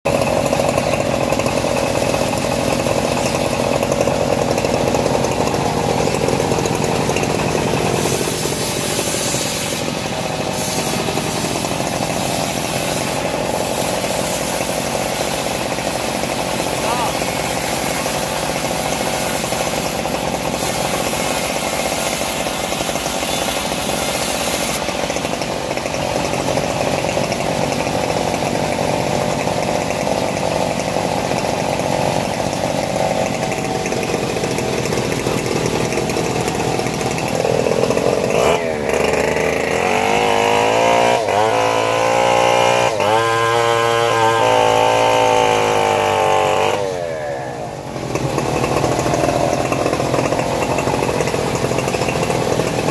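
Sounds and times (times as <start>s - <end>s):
bandsaw mill cutting log: 0.0s - 52.9s
chainsaw revving: 0.1s - 52.9s.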